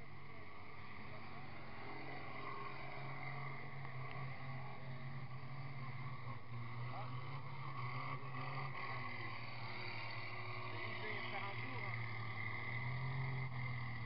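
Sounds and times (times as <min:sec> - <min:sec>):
diesel engines droning: 0:00.0 - 0:14.0.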